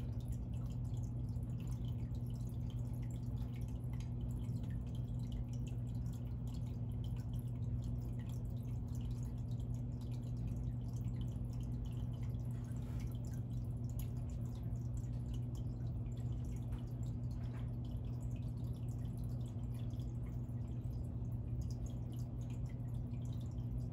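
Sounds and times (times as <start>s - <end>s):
low hum: 0.0s - 23.9s
water trickling and dripping: 0.0s - 23.9s.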